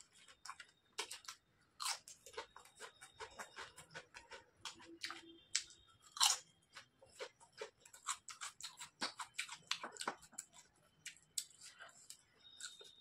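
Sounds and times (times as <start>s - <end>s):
chewing crunchy chips: 0.0s - 13.0s.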